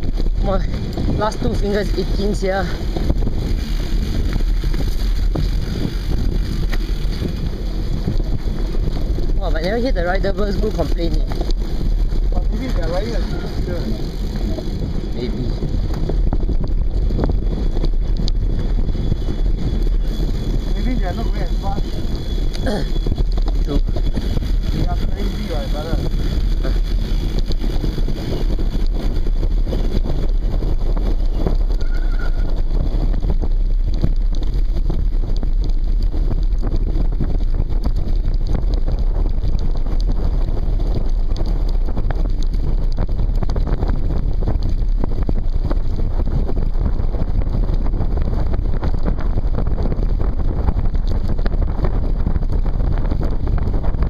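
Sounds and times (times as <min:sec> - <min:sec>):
bike rattling over rough ground: 0:00.0 - 0:54.0
wind buffeting microphone: 0:00.0 - 0:54.0.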